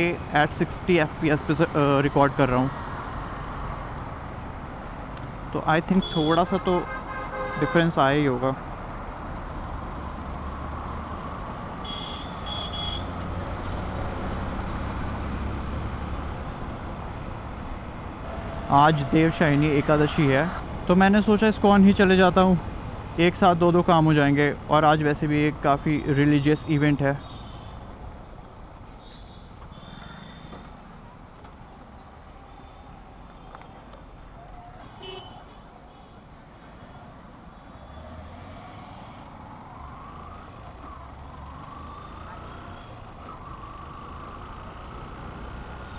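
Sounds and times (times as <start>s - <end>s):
motorcycle engine and road rumble: 0.0s - 45.9s.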